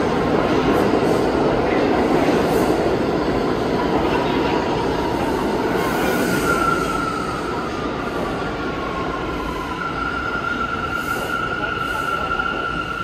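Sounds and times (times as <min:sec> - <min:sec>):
subway train wheels rolling: 0:00.0 - 0:13.0.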